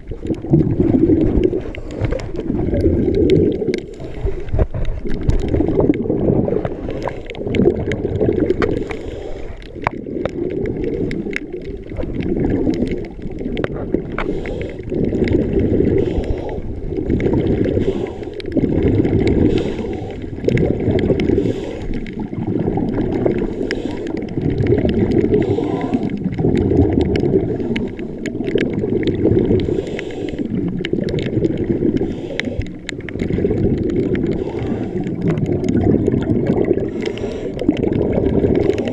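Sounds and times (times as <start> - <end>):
underwater regulator bubbles: 0.0 - 38.9
faint clicks: 1.1 - 6.0, 6.6 - 38.9.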